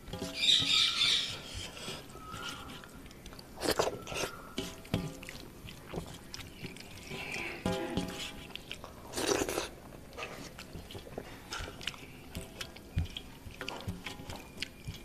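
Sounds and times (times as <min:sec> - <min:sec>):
hand squishing wet rice: 0:00.0 - 0:15.0.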